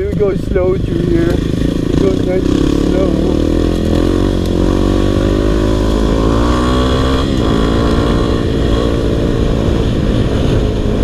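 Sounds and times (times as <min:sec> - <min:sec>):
dirt bike engine: 0:00.0 - 0:11.0.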